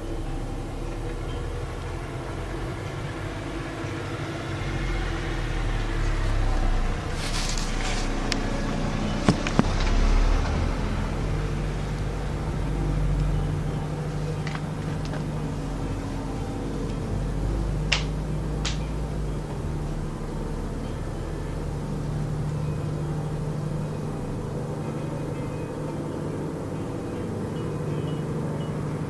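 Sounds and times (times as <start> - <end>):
steady low-pitched drone: 0.0 - 29.0.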